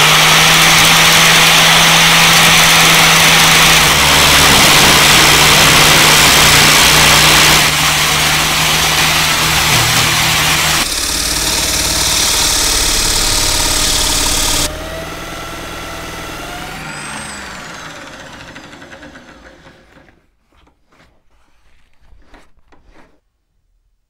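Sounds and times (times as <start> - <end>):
power tool motor running: 0.0 - 20.2.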